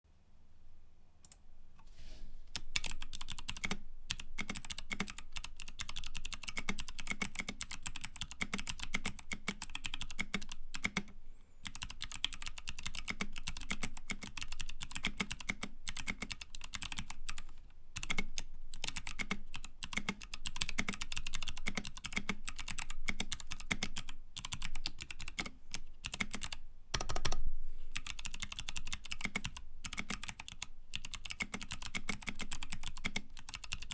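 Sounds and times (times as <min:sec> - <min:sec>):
typing on a clicky keyboard: 0:02.6 - 0:27.4, 0:28.0 - 0:33.9.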